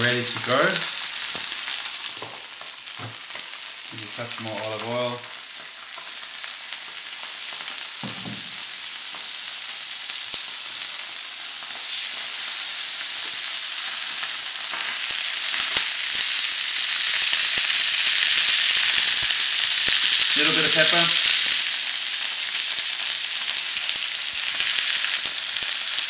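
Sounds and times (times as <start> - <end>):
fish sizzling in pan: 0.0 - 26.0.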